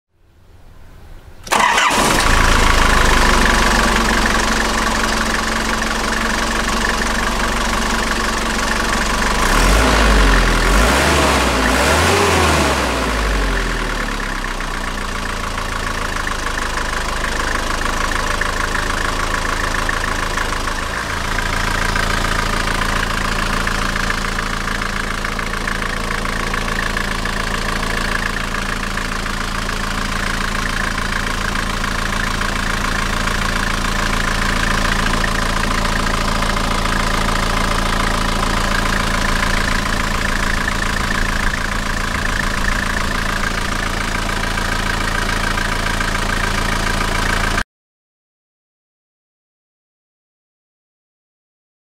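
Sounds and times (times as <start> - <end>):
diesel engine idling: 1.4 - 47.6.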